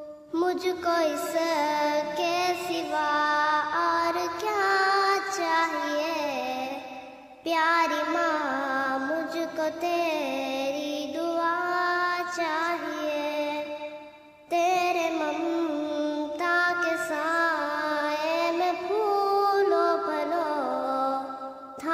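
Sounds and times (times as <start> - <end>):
child singing: 0.0 - 21.9.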